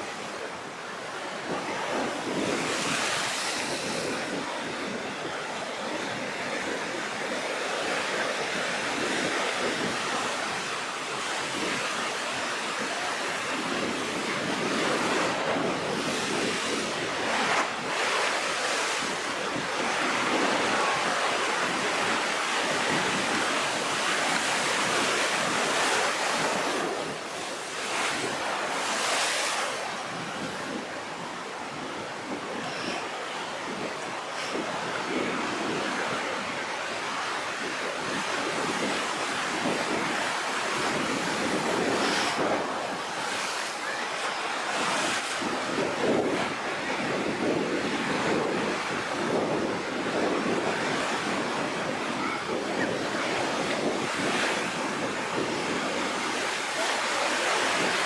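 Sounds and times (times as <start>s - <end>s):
heavy surf breaking: 0.0s - 58.0s
wind: 0.0s - 58.0s.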